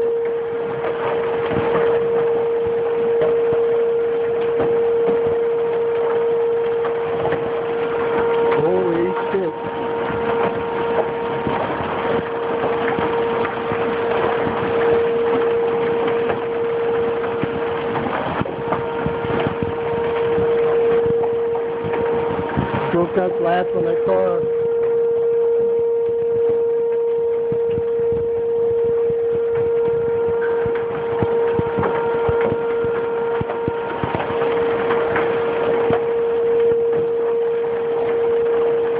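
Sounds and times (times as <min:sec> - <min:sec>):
loud droning siren tone: 0:00.0 - 0:38.9
steady hum: 0:00.0 - 0:38.9
heavy hail and rain pounding: 0:00.3 - 0:24.9, 0:29.4 - 0:36.2.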